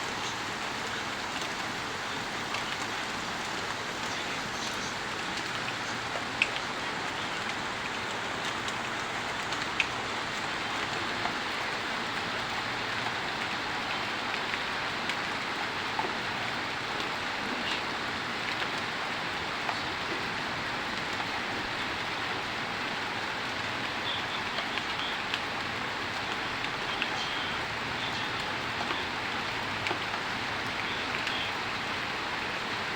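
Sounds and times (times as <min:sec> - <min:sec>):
sharp raindrops landing close: 0:00.0 - 0:32.9
steady rain falling: 0:00.0 - 0:32.9.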